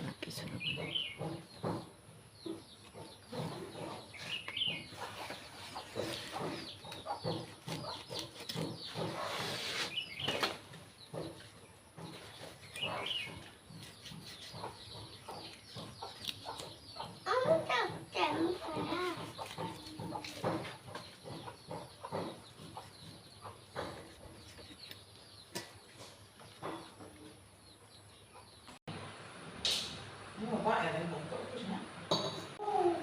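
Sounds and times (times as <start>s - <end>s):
chickens clucking: 0.5s - 28.8s.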